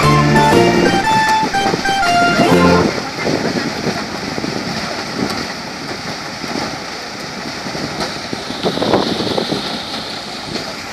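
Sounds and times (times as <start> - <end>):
wind buffeting microphone: 0.8 - 10.9.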